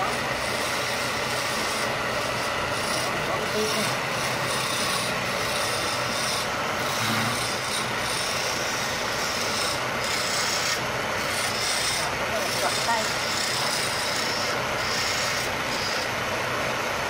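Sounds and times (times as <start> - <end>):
turning tool scraping wood: 0.0 - 16.2
wood lathe humming: 0.0 - 17.0.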